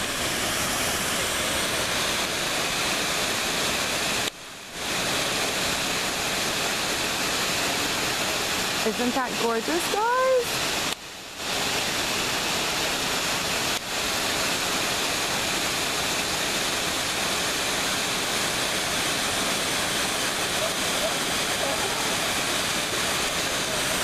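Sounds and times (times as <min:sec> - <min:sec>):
waterfall rushing into pool: 0:00.0 - 0:24.0.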